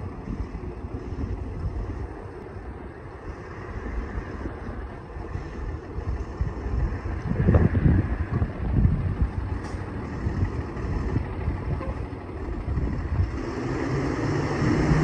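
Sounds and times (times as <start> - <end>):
vehicle engine rumbling: 0.0 - 15.0
wind buffeting microphone: 0.0 - 15.0.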